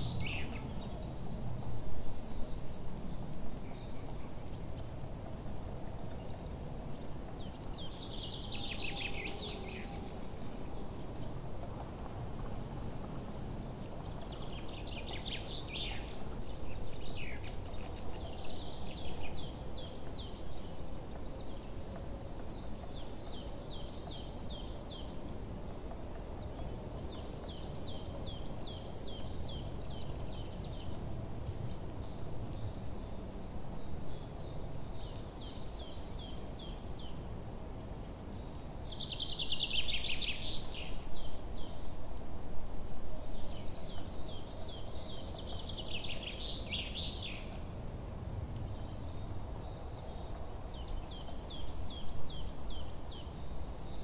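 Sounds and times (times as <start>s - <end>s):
low background noise: 0.0s - 54.0s
songbirds singing: 0.0s - 54.0s.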